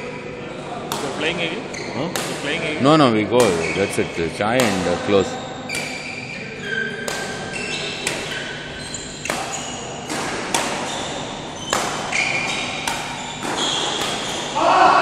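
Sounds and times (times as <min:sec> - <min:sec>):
racquets hitting shuttlecock: 0:00.8 - 0:06.3, 0:06.9 - 0:14.6.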